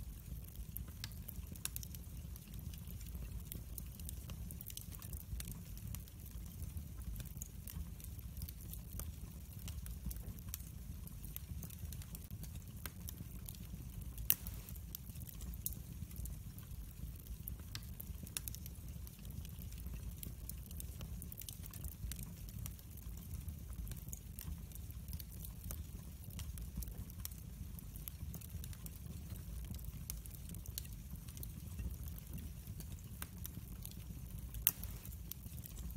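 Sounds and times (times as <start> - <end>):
fire crackling and popping: 0.0 - 35.9
fire flames rumbling: 0.0 - 35.9.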